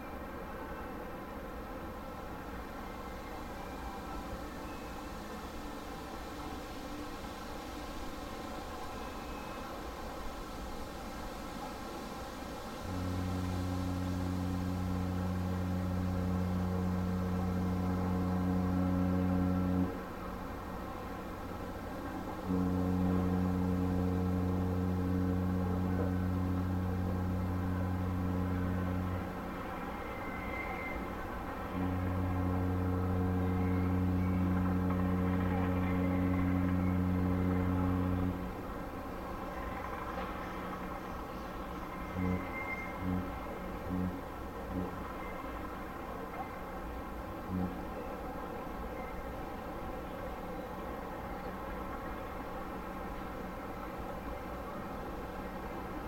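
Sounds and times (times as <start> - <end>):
ship horn long deep blast: 0.0 - 56.0.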